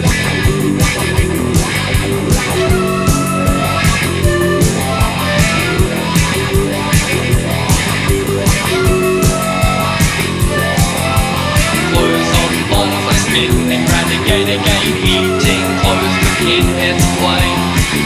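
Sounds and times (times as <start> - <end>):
instrumental rock music: 0.0 - 18.0.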